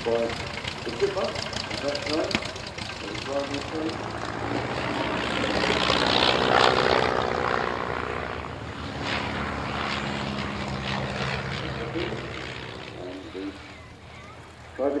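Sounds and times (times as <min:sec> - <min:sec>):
propeller plane flying past: 0:00.0 - 0:15.0.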